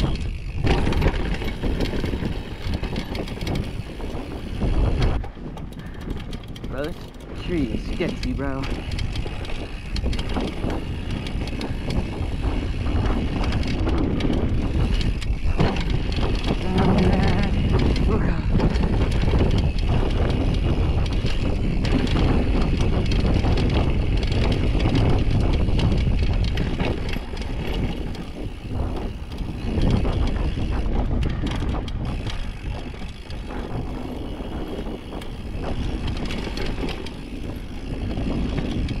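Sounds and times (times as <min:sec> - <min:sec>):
bike clattering over bumps: 0:00.0 - 0:39.0
tyres rolling over dirt and stones: 0:00.0 - 0:39.0
wind on microphone: 0:00.0 - 0:39.0.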